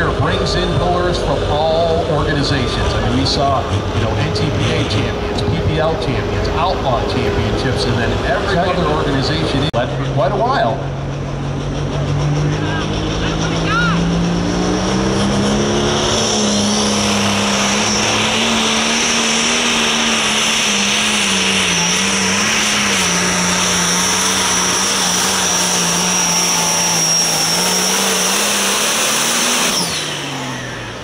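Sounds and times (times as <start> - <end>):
diesel tractor engine at full throttle: 0.0 - 31.0
high turbo whine: 0.0 - 31.0.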